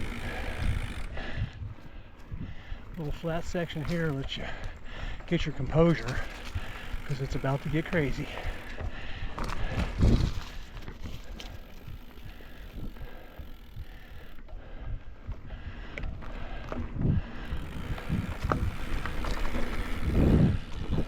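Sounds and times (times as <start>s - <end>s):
bike rattling: 0.0s - 21.0s
bike tyres rolling on dirt: 0.0s - 21.0s.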